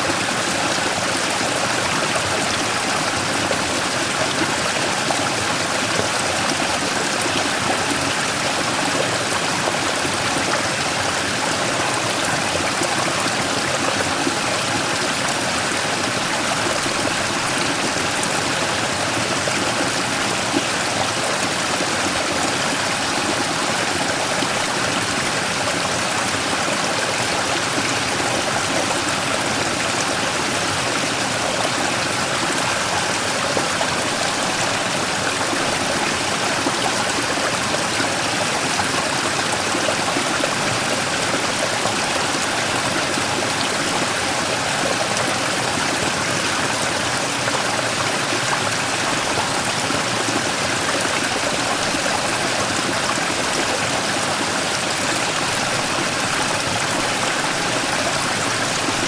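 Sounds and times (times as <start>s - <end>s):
stream rushing over rock: 0.0s - 59.0s.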